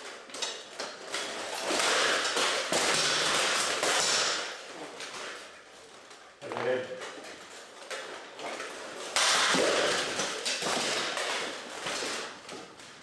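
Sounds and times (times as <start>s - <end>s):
swords and armour clashing: 0.0s - 5.6s, 6.8s - 12.7s.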